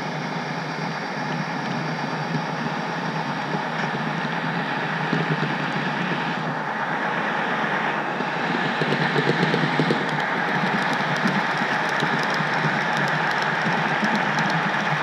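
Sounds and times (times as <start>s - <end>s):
model train wheels rumbling on rail: 0.0s - 15.0s.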